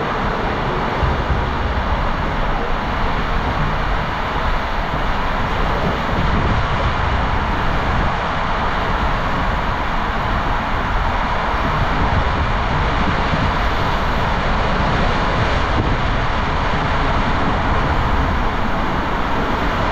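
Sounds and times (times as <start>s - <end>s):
low rumble of water slide: 0.0s - 19.9s
rushing water: 0.0s - 19.9s.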